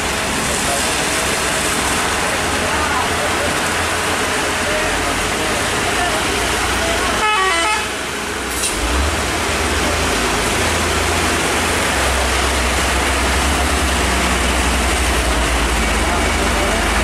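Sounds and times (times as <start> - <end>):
heavy rain hissing: 0.0 - 17.0
truck and car engines rumbling: 0.0 - 17.0
tyres on a wet road: 0.0 - 17.0.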